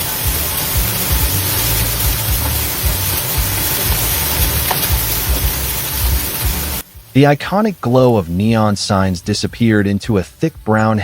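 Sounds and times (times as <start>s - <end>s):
strong wind hissing: 0.0s - 10.8s.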